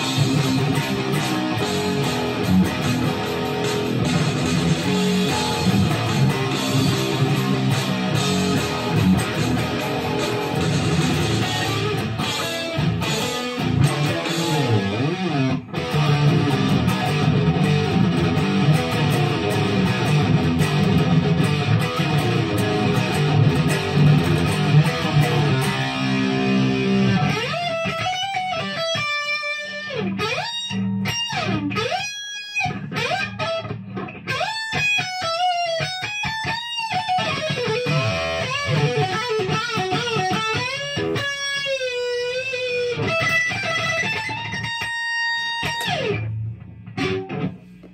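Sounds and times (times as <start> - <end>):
distorted electric guitar: 0.0 - 47.9.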